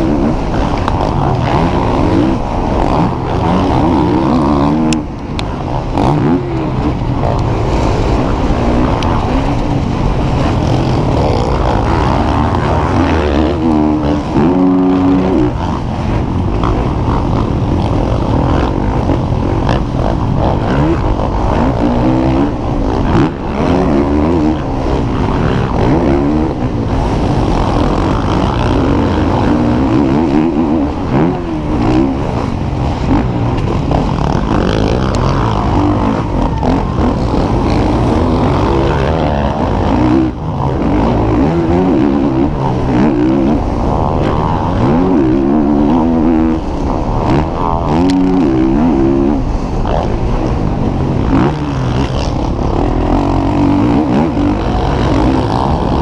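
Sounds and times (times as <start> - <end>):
dirt bike engine revving: 0.0 - 56.0
rumble from rough track: 0.0 - 56.0
wind rush: 0.0 - 56.0.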